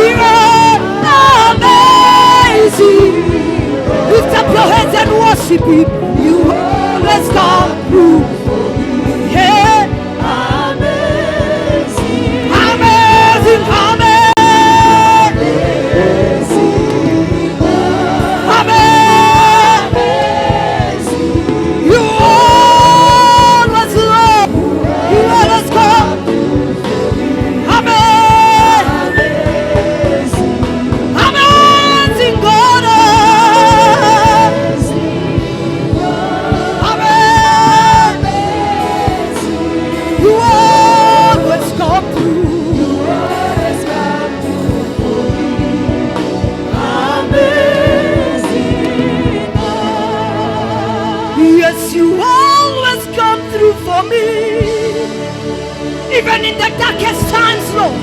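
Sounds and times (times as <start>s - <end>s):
musical accompaniment: 0.0s - 58.0s
voices singing along: 0.0s - 58.0s.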